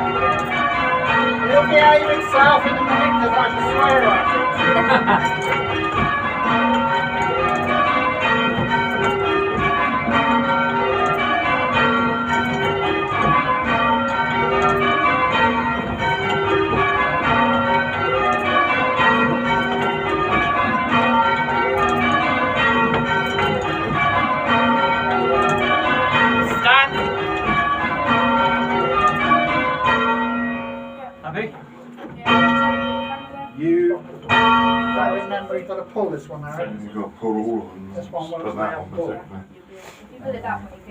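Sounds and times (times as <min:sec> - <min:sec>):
church bells ringing in rounds: 0:00.0 - 0:39.4.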